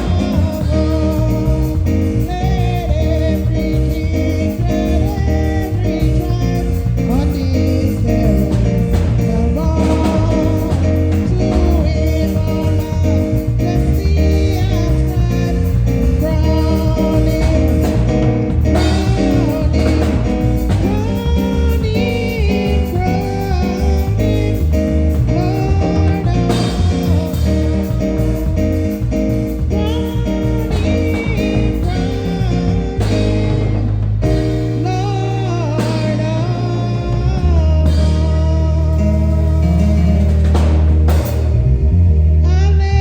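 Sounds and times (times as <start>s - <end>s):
hymn sung with band: 0.0s - 41.6s
drums: 0.0s - 41.9s
guitar: 0.0s - 43.0s
heavy bass line: 0.0s - 43.0s.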